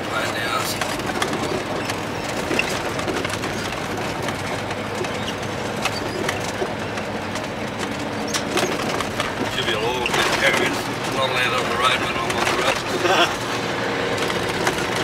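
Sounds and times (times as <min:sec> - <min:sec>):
road noise: 0:00.0 - 0:15.0
truck engine drone: 0:00.0 - 0:15.0
small clicks and rattles: 0:00.6 - 0:13.0.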